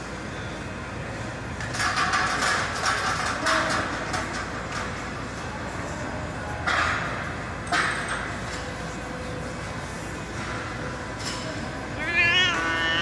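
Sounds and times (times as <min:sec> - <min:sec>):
gym room noise: 0:00.0 - 0:13.0.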